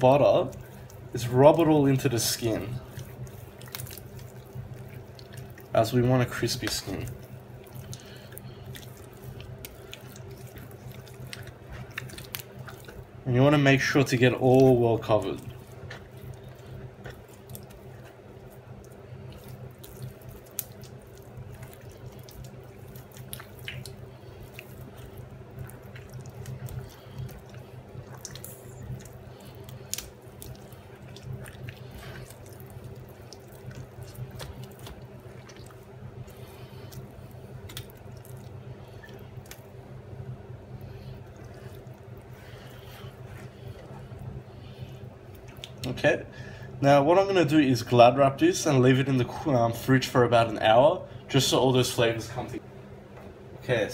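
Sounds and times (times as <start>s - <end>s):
hands squelching raw chicken: 0.0s - 46.0s
steady low hum: 0.0s - 53.9s.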